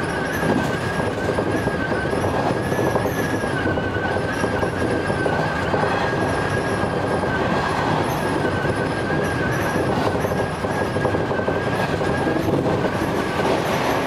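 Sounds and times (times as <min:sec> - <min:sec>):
train wheels rumbling on rail: 0:00.0 - 0:14.0
wavering squeals: 0:00.0 - 0:14.0.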